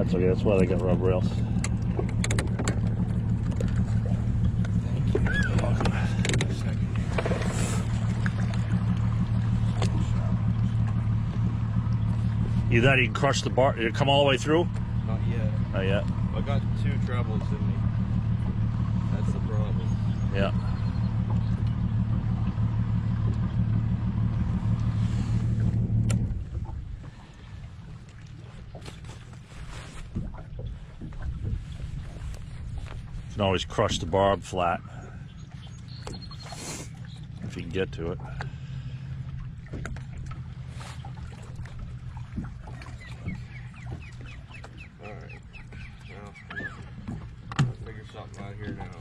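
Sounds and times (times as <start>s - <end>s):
outboard boat motor idling: 0.0s - 49.0s.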